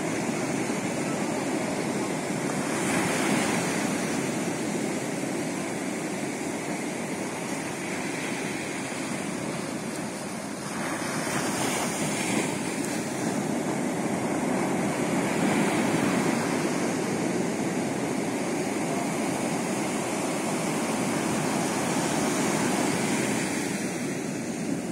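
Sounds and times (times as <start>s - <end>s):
ocean surf: 0.0s - 24.9s
wave crashing: 0.0s - 24.9s.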